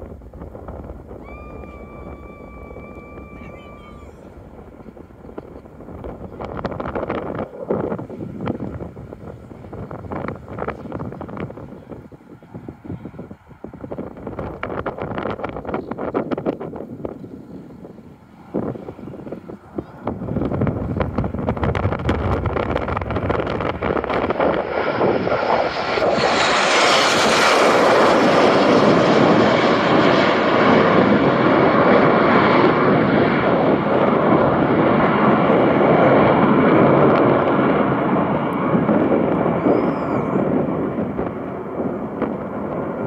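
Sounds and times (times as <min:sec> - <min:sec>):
jet aircraft flying overhead: 0:00.0 - 0:43.0.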